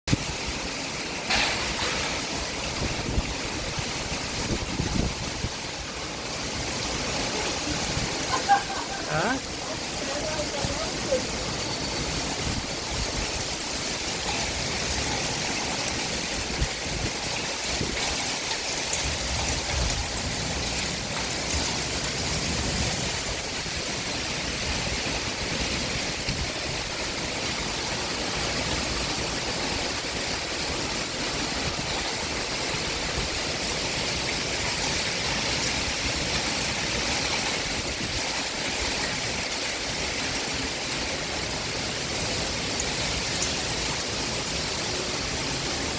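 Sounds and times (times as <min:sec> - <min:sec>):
heavy rain pouring: 0:00.0 - 0:45.9
running water: 0:00.1 - 0:45.9.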